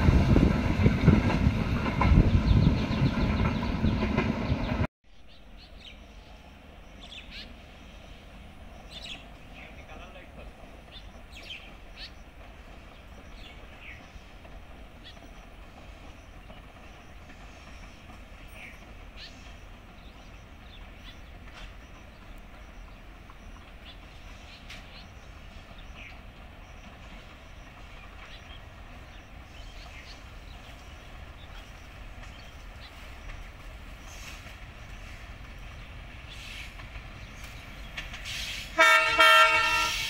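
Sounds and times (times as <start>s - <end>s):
distant diesel train rumble: 0.0s - 40.0s.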